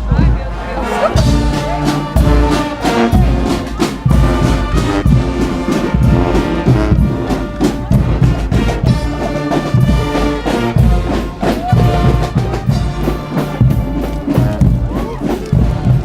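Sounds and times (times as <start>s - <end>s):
brass band playing: 0.0s - 16.0s
pounding drum beat: 0.0s - 16.0s.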